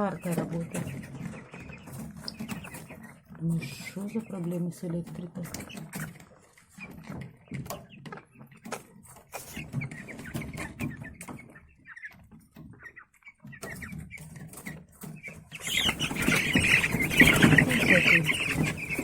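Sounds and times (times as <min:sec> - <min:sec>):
chicks clicking and rustling: 0:00.0 - 0:19.0
chicks peeping: 0:00.0 - 0:19.0.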